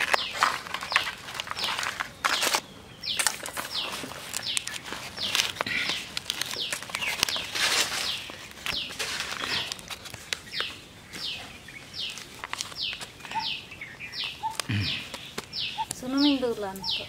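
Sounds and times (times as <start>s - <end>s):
bird chirping: 0.0s - 17.0s
leaves rustling and crackling: 0.0s - 17.0s.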